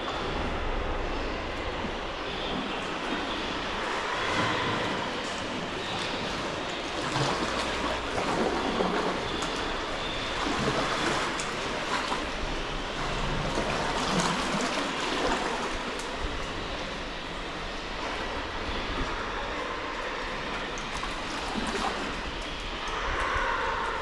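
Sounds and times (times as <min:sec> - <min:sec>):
steady low rumble: 0:00.0 - 0:24.0
water splashing around kayak: 0:00.0 - 0:24.0.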